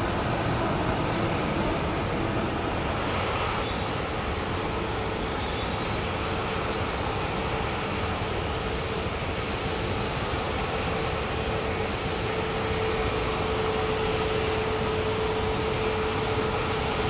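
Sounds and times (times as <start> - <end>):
faint jet engine whine: 0.0 - 17.0
jet engine roar: 0.0 - 17.0.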